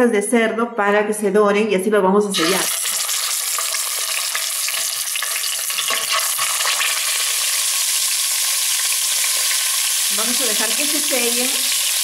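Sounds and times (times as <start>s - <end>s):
pork sizzling in hot oil: 2.3s - 12.0s.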